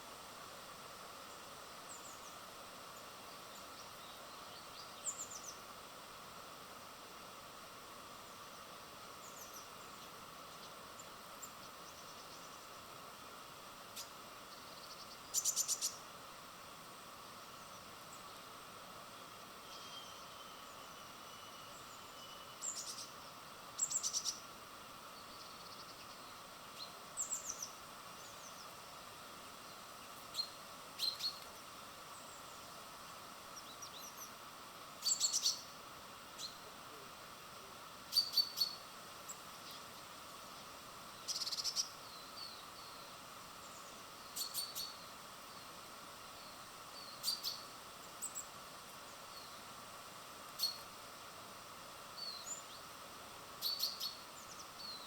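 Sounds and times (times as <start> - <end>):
faint background hiss: 0.0 - 55.0
songbirds chirping: 0.8 - 55.0.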